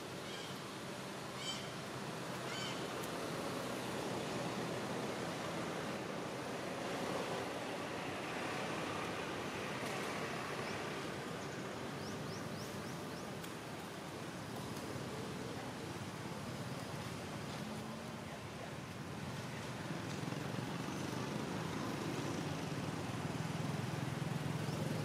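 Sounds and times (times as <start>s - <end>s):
rushing outdoor background noise: 0.0s - 25.0s.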